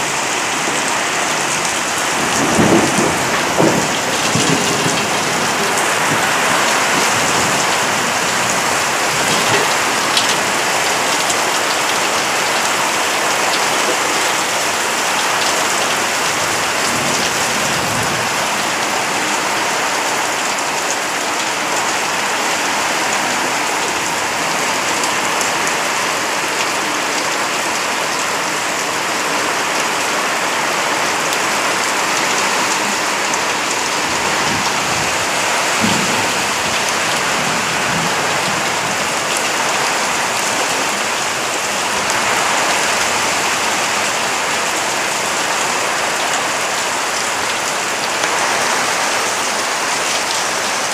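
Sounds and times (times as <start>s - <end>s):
heavy rain on metal roofs: 0.0s - 50.9s.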